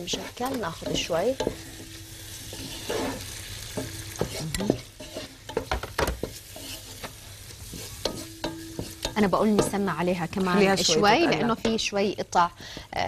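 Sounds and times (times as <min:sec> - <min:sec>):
meat sizzling in oil: 0:00.0 - 0:12.4.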